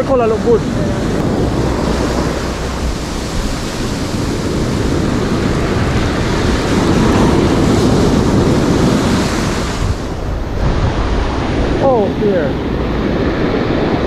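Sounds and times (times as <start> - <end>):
sea surf breaking on beach: 0.0 - 14.0
wind buffeting microphone: 0.0 - 14.0.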